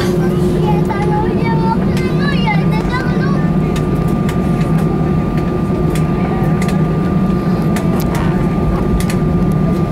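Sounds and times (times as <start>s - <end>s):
aircraft cabin low drone: 0.0s - 9.9s.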